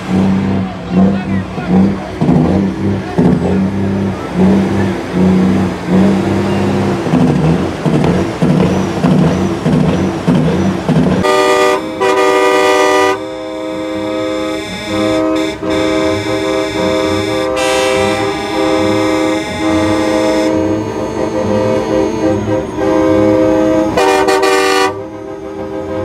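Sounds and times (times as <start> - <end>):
low rhythmic thumping: 0.0 - 26.0
truck air horns chord: 0.0 - 26.0.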